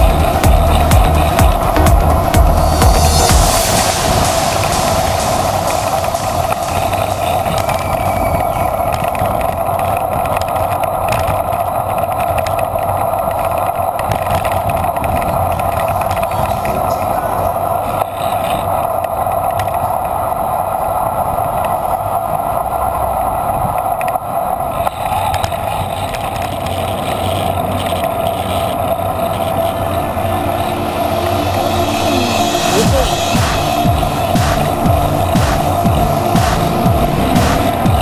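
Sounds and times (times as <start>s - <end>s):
bicycle road noise: 0.0s - 38.0s
wind noise: 0.0s - 38.0s.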